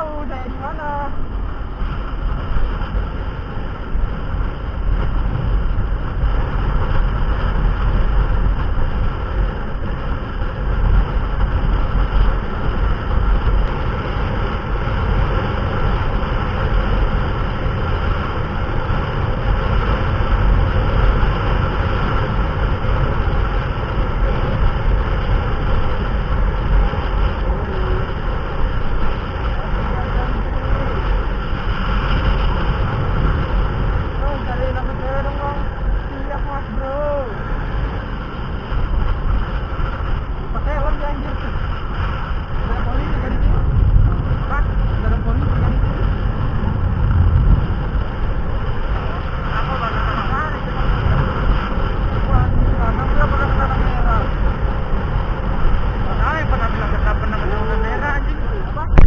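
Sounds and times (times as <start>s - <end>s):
motorcycle running: 0.0s - 59.0s
wind rushing over microphone: 0.0s - 59.0s.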